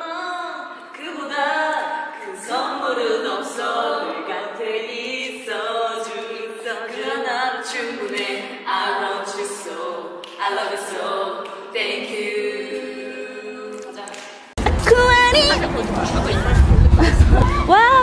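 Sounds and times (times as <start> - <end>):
women singing a cappella: 0.0 - 14.6.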